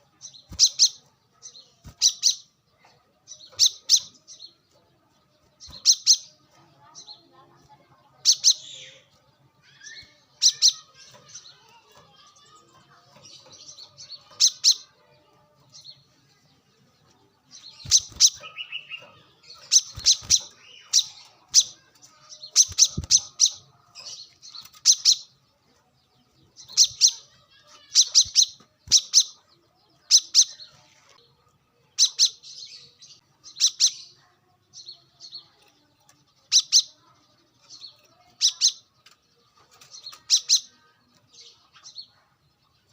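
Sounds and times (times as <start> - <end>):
bird high-pitched chips: 0.0 - 16.0, 17.5 - 25.5, 26.3 - 42.2.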